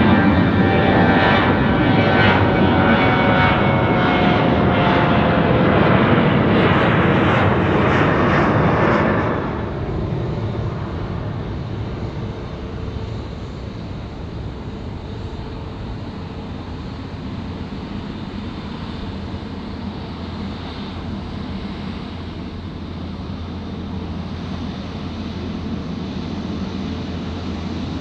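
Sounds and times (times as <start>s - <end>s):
jet airliner passing close: 0.0s - 28.0s.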